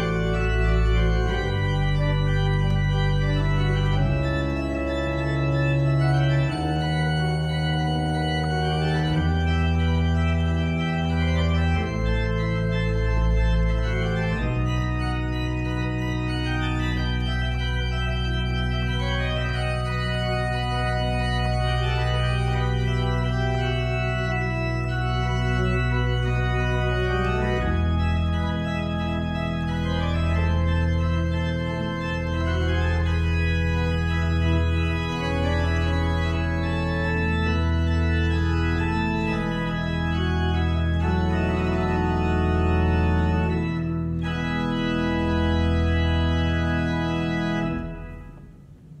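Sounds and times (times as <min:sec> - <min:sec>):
church organ chords: 0:00.0 - 0:49.0.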